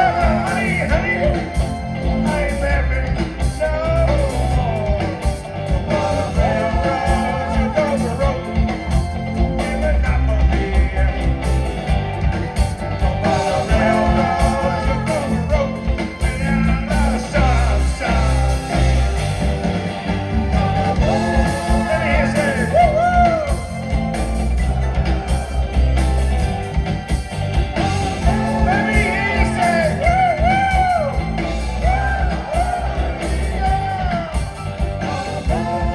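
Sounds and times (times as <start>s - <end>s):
lead vocal singing: 0.0s - 12.4s, 13.0s - 35.9s
bass and drum beat: 0.0s - 35.9s
guitar: 0.0s - 35.9s.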